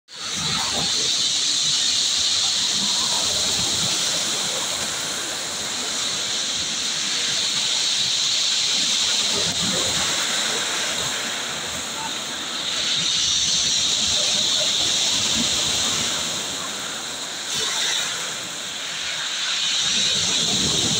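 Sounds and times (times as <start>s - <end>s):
waves breaking on pebbles: 0.3s - 20.9s.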